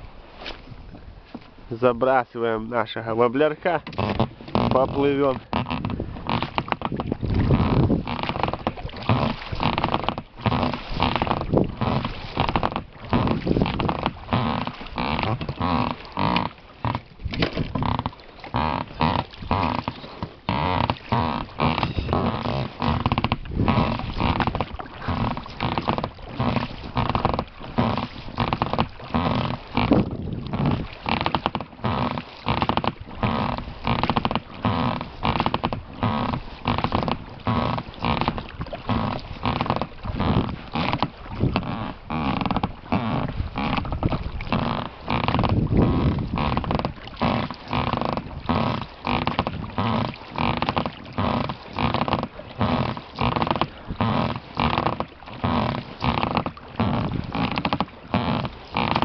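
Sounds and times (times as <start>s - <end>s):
oars creaking in oarlocks: 0.0s - 59.0s
oars splashing water: 0.0s - 59.0s.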